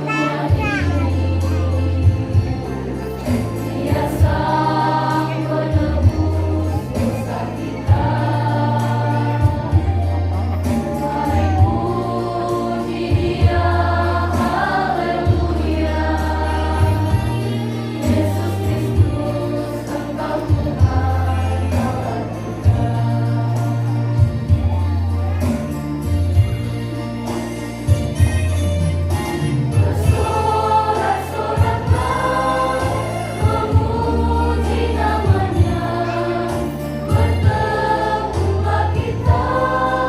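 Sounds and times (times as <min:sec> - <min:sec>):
choir singing praise song: 0:00.0 - 0:25.6, 0:29.1 - 0:40.0
instrumental accompaniment with bass: 0:00.0 - 0:40.0.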